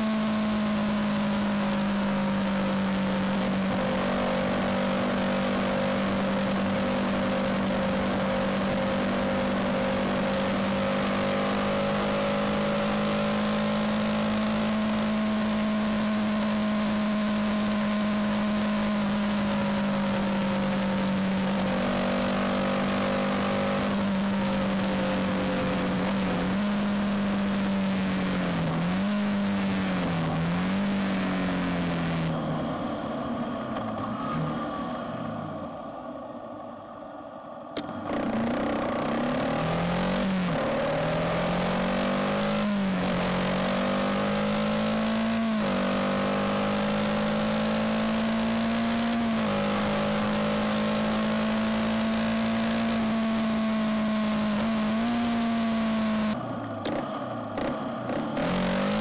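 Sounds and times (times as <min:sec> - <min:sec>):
motorcycle engine cruising: 0:00.0 - 0:34.7, 0:37.8 - 0:59.0.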